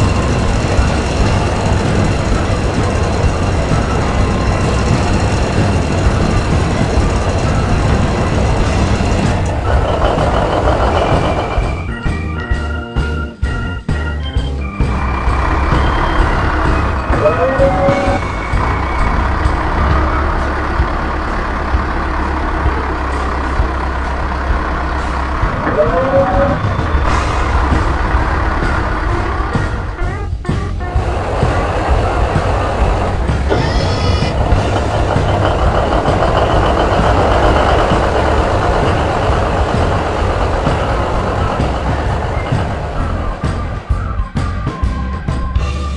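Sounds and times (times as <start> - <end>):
high-pitched squeal: 0.0 - 12.2, 14.7 - 45.7
diesel engine running: 0.0 - 45.9.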